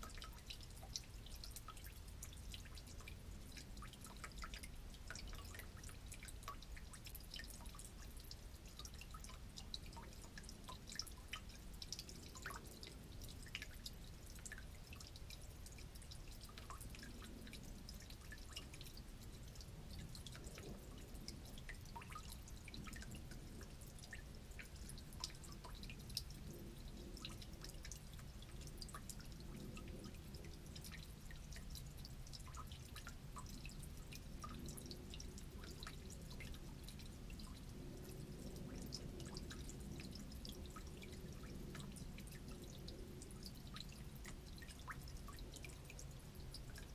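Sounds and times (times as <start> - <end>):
fuel dripping into pan: 0.0 - 46.9.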